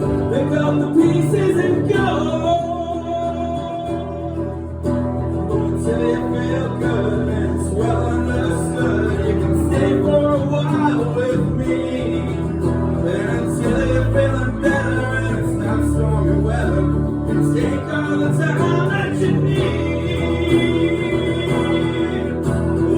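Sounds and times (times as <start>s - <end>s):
acoustic guitar playing: 0.0s - 22.9s
person singing: 0.0s - 22.9s.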